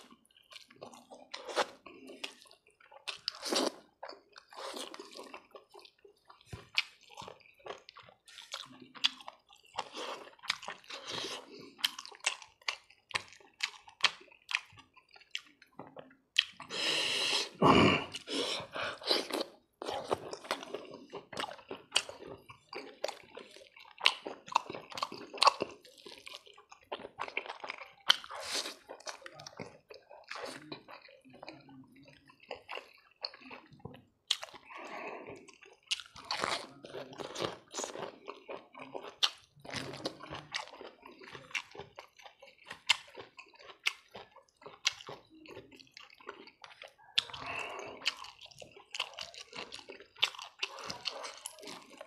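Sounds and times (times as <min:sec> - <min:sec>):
wet chewing and lip smacking: 0:00.0 - 0:52.0.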